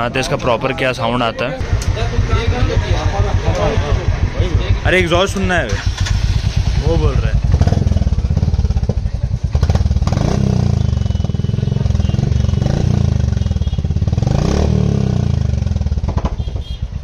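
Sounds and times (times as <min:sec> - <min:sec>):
motorcycle engine revving: 0:01.6 - 0:17.0.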